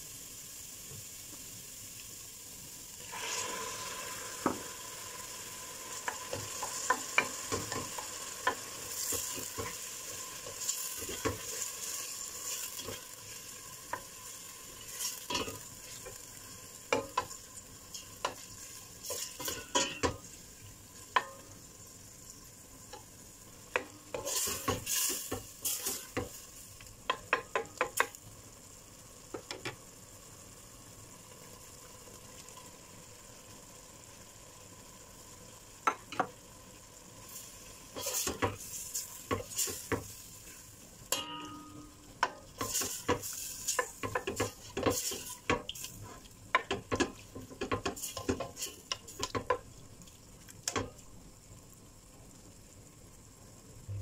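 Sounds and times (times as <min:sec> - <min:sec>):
food frying in oil: 0:00.0 - 0:54.0.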